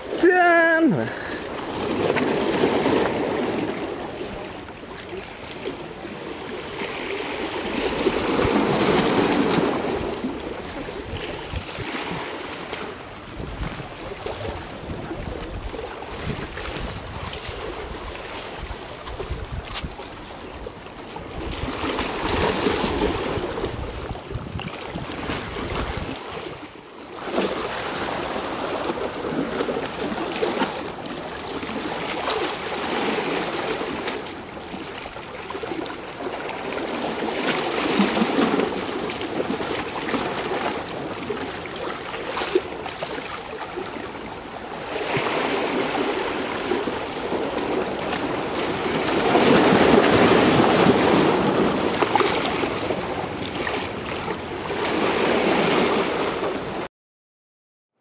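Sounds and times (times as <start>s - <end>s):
sea waves splashing against rocks: 0.0s - 56.8s.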